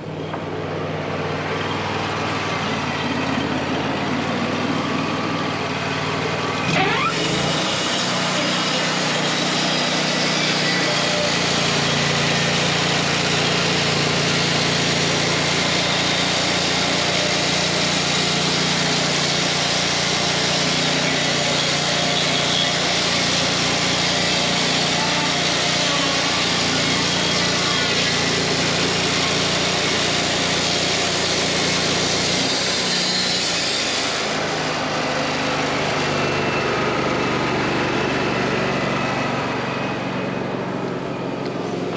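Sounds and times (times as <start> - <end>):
engine droning: 0.0 - 31.0, 34.3 - 41.9
bandsaw blade cutting log: 2.3 - 38.8.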